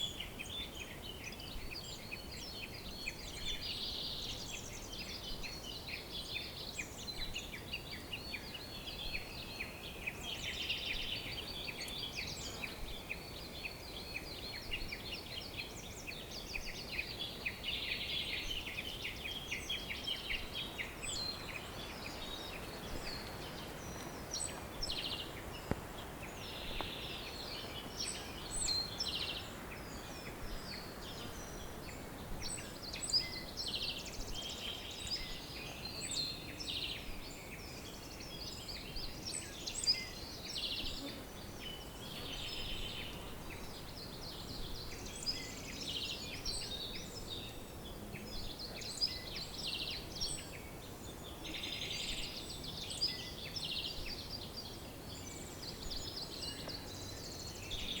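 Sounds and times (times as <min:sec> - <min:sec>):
faint background hiss: 0:00.0 - 0:58.0
songbirds singing: 0:00.0 - 0:58.0.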